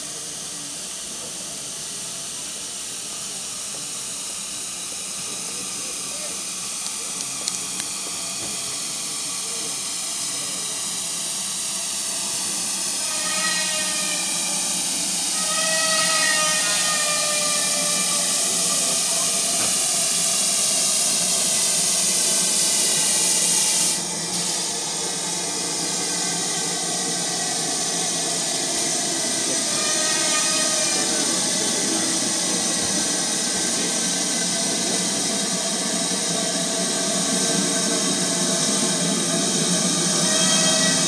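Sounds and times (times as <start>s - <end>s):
steam locomotive hissing: 0.0s - 41.0s.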